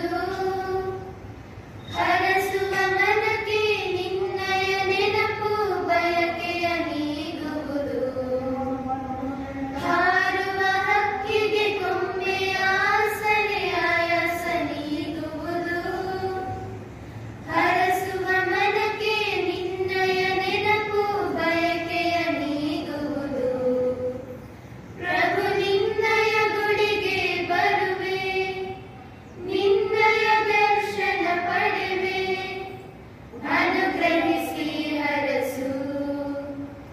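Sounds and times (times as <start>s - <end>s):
girls singing together: 0.0s - 36.9s.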